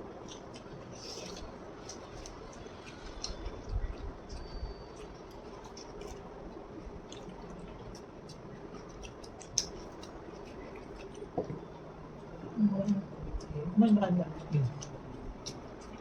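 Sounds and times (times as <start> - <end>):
low background hum: 0.0 - 16.0
chewing crunches: 0.2 - 12.3, 14.4 - 16.0.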